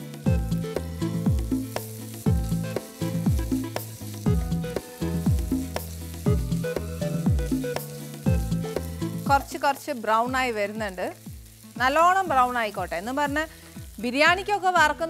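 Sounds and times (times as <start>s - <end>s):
music with bass-drum beat: 0.0s - 9.6s, 10.3s - 15.0s
onions sizzling in oil: 0.0s - 15.0s.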